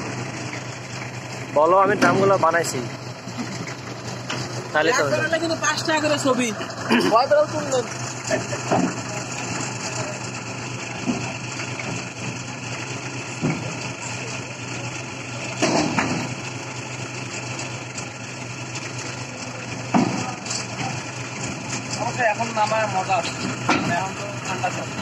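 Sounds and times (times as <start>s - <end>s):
forklift engine running: 0.0s - 25.0s.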